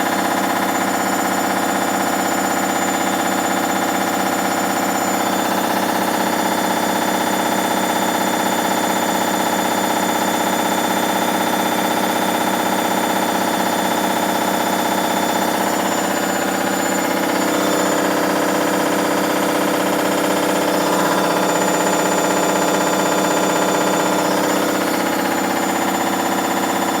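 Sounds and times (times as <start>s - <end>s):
washing machine spinning with rattle: 0.0s - 27.0s.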